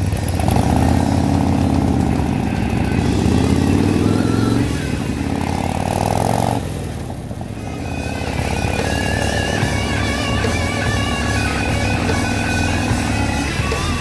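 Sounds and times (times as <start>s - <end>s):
muffled motorcycle engine accelerating: 0.0s - 14.0s.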